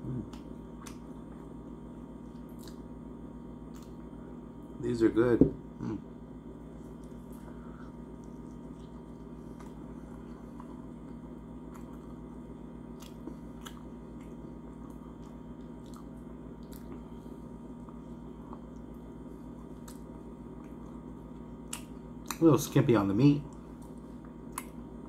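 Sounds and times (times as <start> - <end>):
man chewing food: 0.0 - 4.4, 5.8 - 22.4, 23.5 - 25.0.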